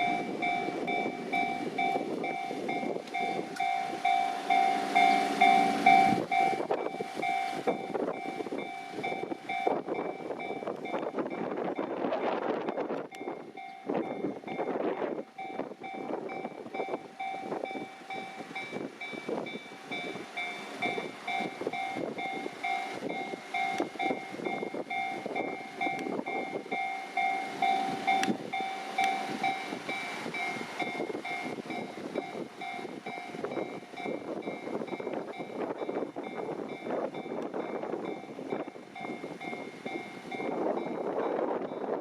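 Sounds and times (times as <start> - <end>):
level crossing warning bell: 0.0 - 42.0.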